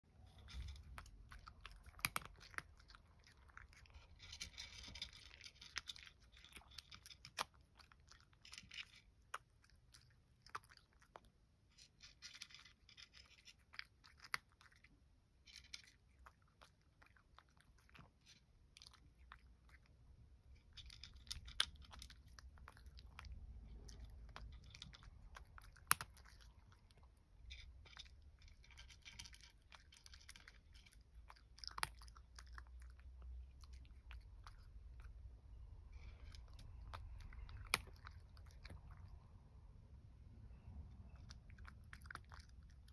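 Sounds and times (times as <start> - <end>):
cat crunching dry kibble: 0.2 - 35.3, 36.0 - 39.3, 41.0 - 42.9.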